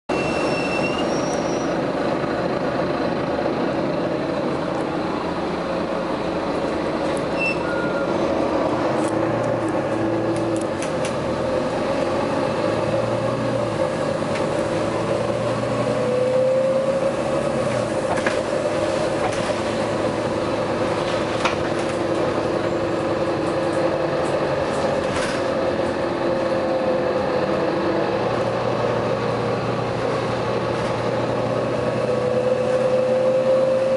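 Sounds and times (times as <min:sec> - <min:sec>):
vehicle engine droning: 0:00.1 - 0:33.9.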